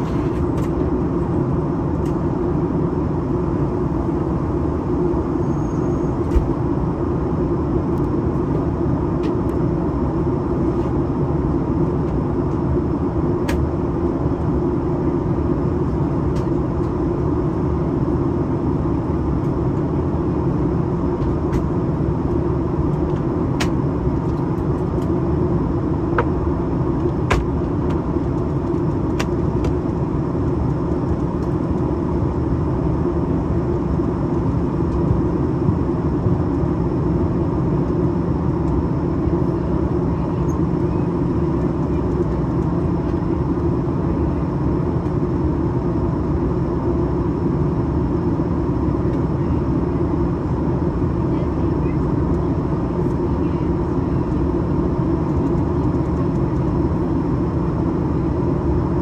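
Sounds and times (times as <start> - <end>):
airplane cabin airflow and engine: 0.0 - 59.0.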